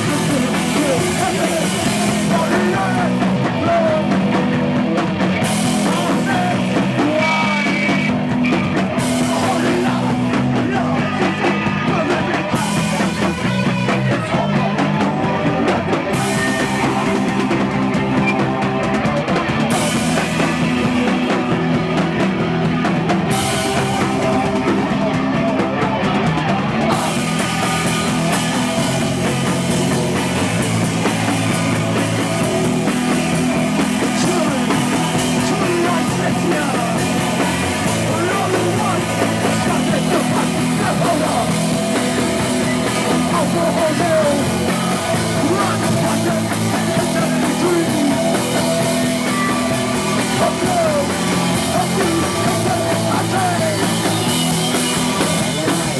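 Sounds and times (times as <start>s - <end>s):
punk rock band playing: 0.0s - 55.9s.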